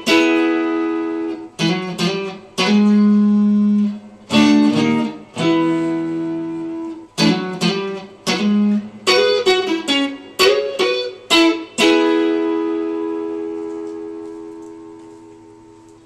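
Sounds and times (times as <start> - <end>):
guitar playing chords: 0.0 - 16.0.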